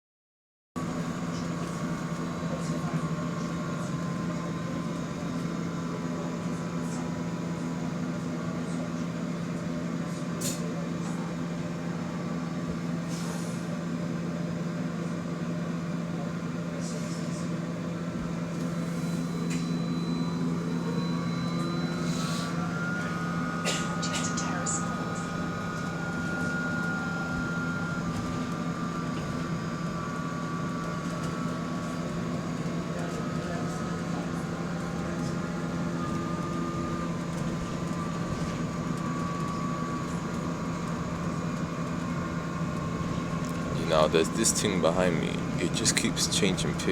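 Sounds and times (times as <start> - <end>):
bus engine droning: 0.8 - 46.9.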